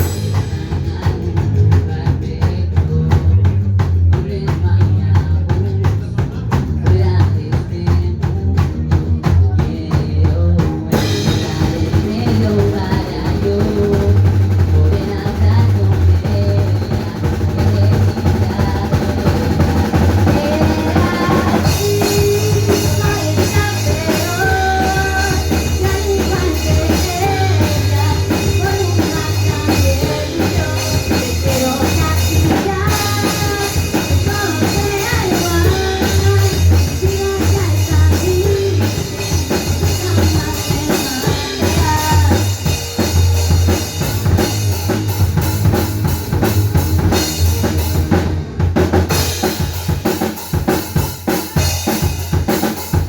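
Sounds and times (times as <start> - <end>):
drum kit: 0.0 - 53.0
heavy bass line: 0.0 - 53.0
live band playing: 0.0 - 53.0.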